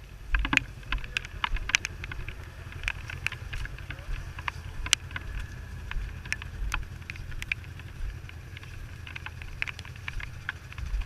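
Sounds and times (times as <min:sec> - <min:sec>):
off-road vehicle rumbling: 0:00.0 - 0:11.0
sharp ticks: 0:00.0 - 0:11.0.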